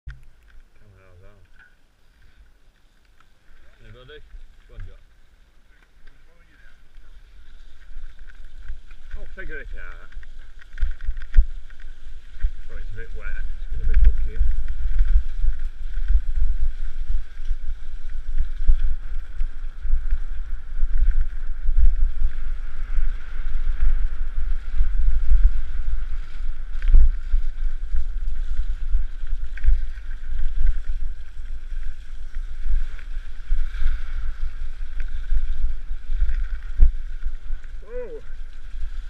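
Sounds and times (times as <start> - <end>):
wind buffeting microphone: 6.3 - 39.0.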